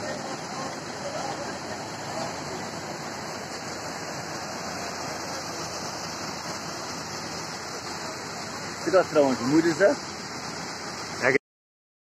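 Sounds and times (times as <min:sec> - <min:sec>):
water rushing through a channel: 0:00.0 - 0:11.4.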